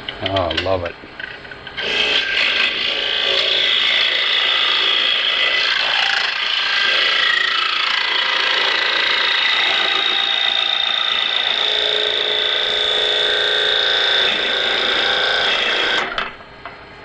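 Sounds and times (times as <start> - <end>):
lathe tool scraping wood: 1.8 - 16.2.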